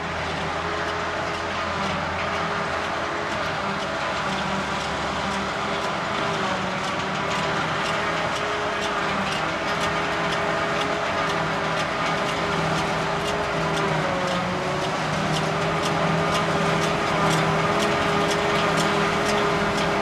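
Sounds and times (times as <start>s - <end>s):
forage harvester chopping grass: 0.0s - 20.0s
tractor running: 0.0s - 20.0s.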